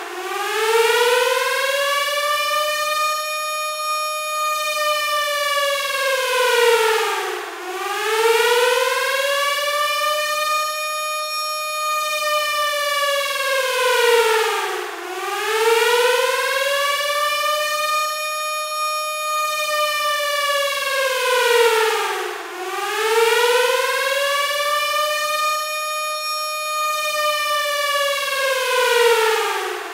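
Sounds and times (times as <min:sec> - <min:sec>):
air-raid siren wailing: 0:00.0 - 0:29.9.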